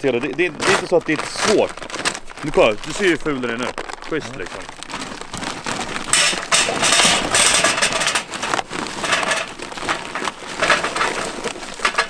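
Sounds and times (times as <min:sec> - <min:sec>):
charcoal clattering into metal: 0:00.0 - 0:03.5, 0:04.1 - 0:12.0
paper bag rustling: 0:00.0 - 0:12.0.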